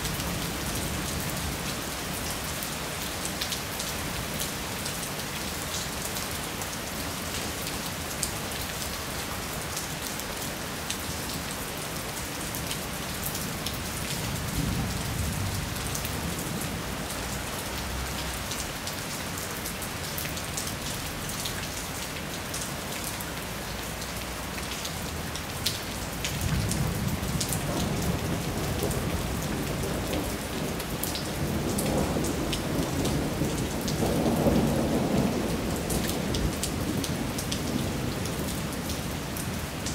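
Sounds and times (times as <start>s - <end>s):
rain pattering on street and roofs: 0.0s - 39.9s.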